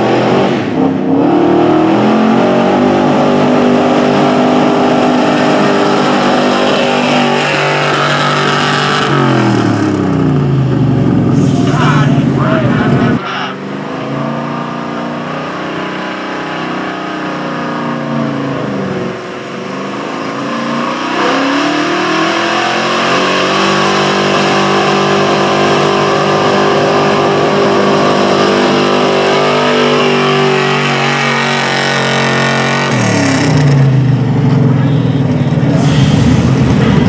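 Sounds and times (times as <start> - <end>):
truck engine at full throttle: 0.0 - 37.0.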